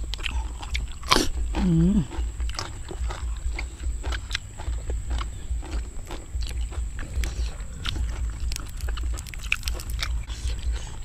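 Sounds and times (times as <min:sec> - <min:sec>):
crunchy chewing: 0:00.0 - 0:11.0
steady low rumble: 0:00.0 - 0:11.0
wet mouth clicks: 0:00.0 - 0:11.0.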